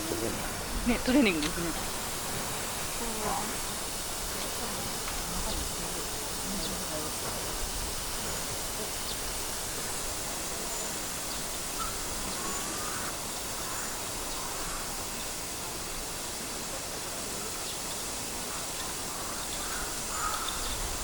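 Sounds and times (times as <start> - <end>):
faint bird calls: 0.0 - 16.6, 17.3 - 21.0
outdoor background noise: 0.0 - 21.0.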